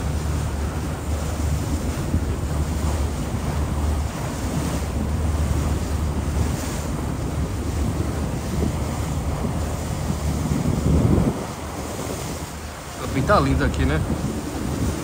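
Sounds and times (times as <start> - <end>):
boat engine rumble: 0.0 - 15.0
rushing air and water: 0.0 - 15.0
wind buffeting microphone: 0.0 - 15.0.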